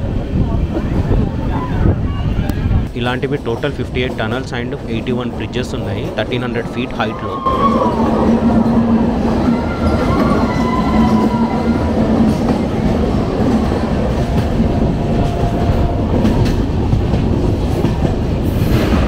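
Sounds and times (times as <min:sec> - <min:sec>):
train coaches rumbling and rattling: 0:00.0 - 0:19.0.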